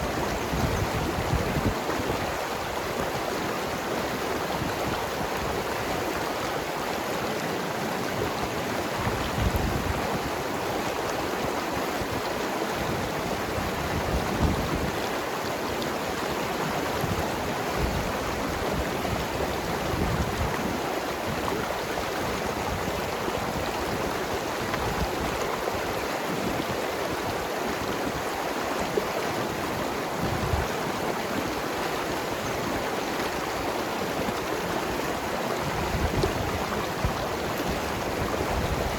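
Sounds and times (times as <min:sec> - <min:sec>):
river flowing over rocks: 0:00.0 - 0:38.9
water gurgles and splashes: 0:00.0 - 0:38.9.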